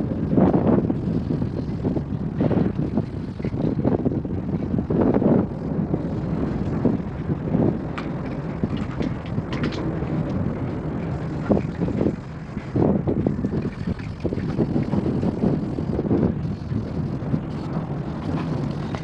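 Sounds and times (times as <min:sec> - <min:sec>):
traffic rumble on bridge: 0:00.0 - 0:19.0
wind buffeting microphone: 0:00.0 - 0:19.0.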